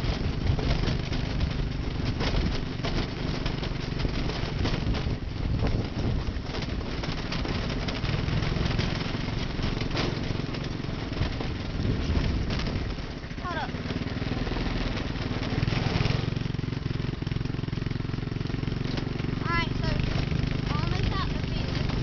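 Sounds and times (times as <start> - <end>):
go-kart engine running: 0.0 - 22.0
knocks and rattles: 0.0 - 22.0.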